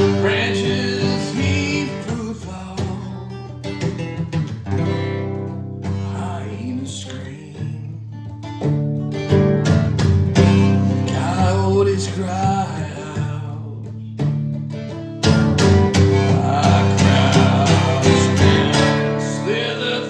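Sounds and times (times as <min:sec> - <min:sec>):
guitar chords strummed: 0:00.0 - 0:20.0.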